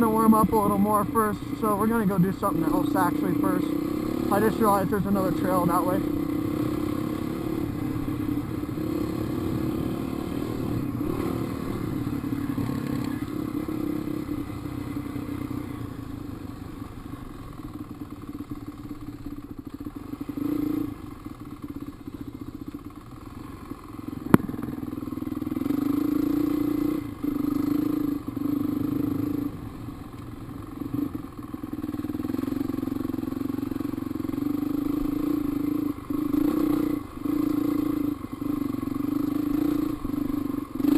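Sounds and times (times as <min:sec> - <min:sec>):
dirt bike engine: 0:00.0 - 0:40.9.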